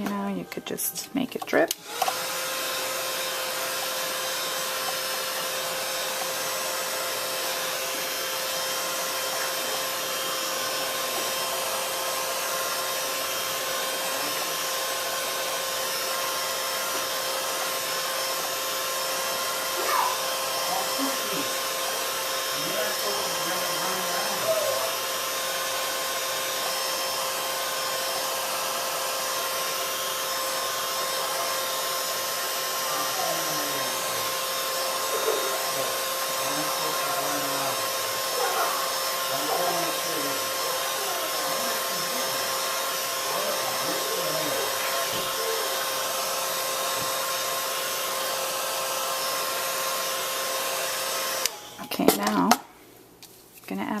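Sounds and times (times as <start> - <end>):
heat tool fan humming: 0.0 - 53.1.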